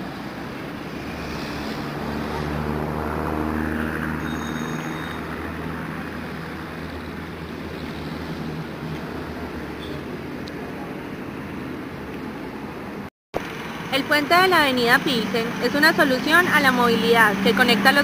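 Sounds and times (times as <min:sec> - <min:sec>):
heavy vehicle engine passing: 0:00.0 - 0:12.0, 0:13.4 - 0:18.0
traffic noise: 0:00.0 - 0:18.0.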